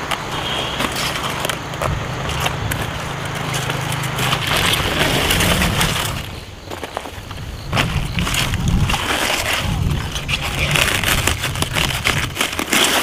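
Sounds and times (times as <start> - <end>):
cabbage crunching and rustling: 0.0 - 13.0.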